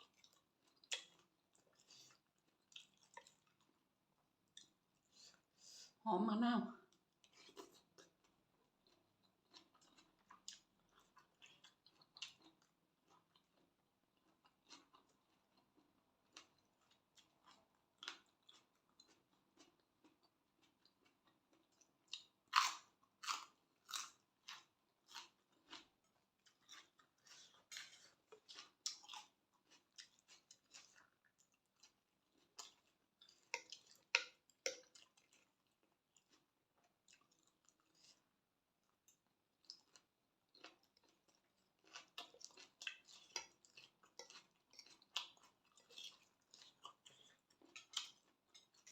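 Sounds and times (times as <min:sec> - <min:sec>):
chewing noodle salad: 0:00.0 - 0:06.0, 0:06.8 - 0:48.9.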